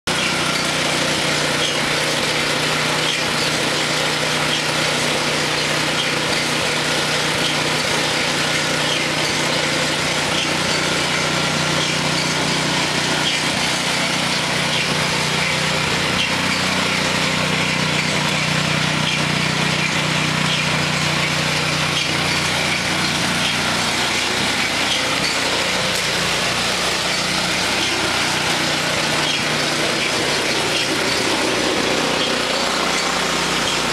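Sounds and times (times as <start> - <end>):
small gasoline engine running: 0.0 - 33.9.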